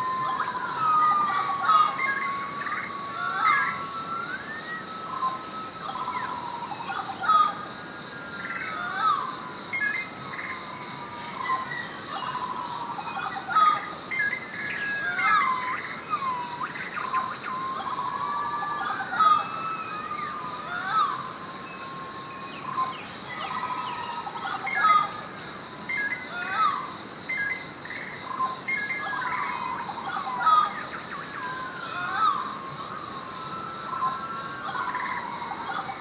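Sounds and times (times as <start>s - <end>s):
sharp bird calls: 0.0s - 7.7s, 8.4s - 36.0s
birds whistling: 0.0s - 36.0s
high insect drone: 0.0s - 36.0s.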